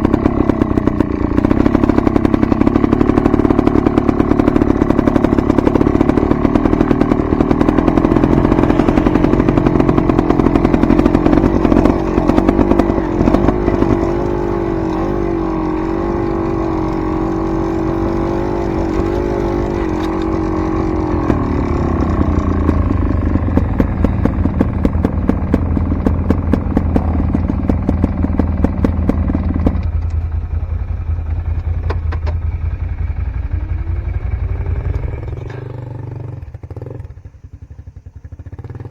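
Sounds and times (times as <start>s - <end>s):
dirt bike engine revving: 0.0s - 29.9s, 32.8s - 37.2s.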